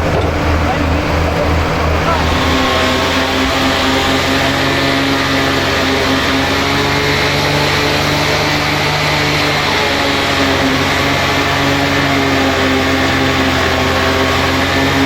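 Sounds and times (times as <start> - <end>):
tractor diesel engines running: 0.0 - 15.0.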